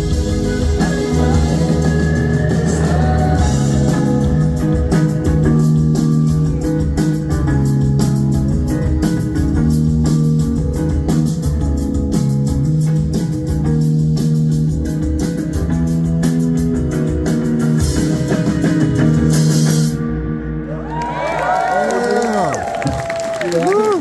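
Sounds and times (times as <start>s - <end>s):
steady drum beat: 0.0s - 20.0s
bass guitar: 0.0s - 24.0s
electric guitars: 0.0s - 24.0s.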